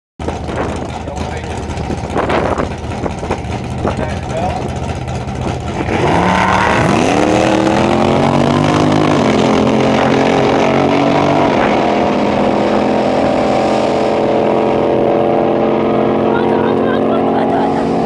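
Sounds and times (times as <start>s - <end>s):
drag car engine at full throttle: 0.2s - 18.0s
second car racing: 0.3s - 18.0s.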